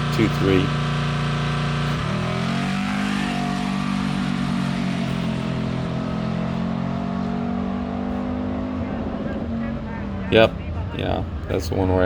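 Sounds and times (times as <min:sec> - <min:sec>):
pickup engine at full throttle: 0:00.0 - 0:12.0.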